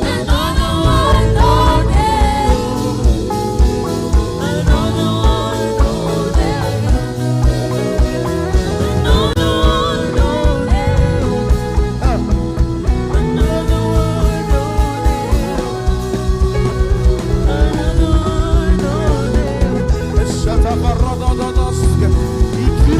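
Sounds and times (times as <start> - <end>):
fast drum beat: 0.0 - 22.9
guitar notes: 0.0 - 22.9
people singing: 0.0 - 22.9.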